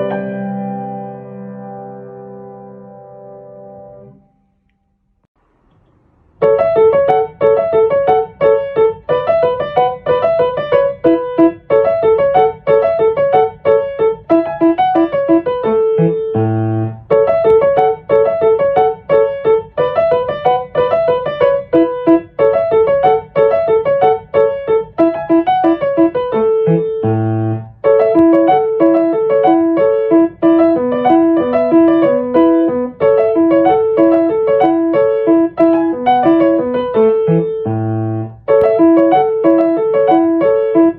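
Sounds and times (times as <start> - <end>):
bright rhythmic piano tune: 0.0 - 4.6, 6.4 - 40.9.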